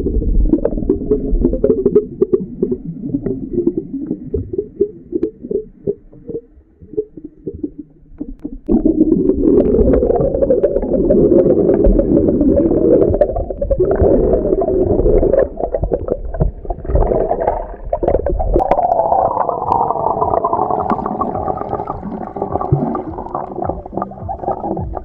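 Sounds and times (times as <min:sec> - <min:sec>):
muffled underwater water noise: 0:00.0 - 0:25.0
underwater bubbling: 0:00.0 - 0:25.0.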